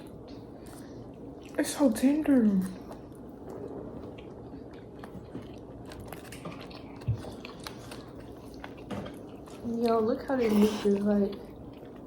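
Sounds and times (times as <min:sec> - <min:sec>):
person chewing food: 0:00.0 - 0:01.8, 0:02.4 - 0:12.0.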